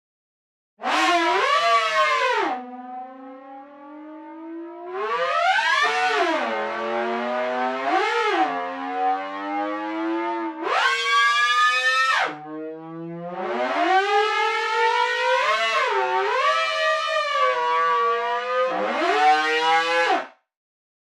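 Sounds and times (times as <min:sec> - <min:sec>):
synthesizer siren-like tone: 0:00.8 - 0:20.2.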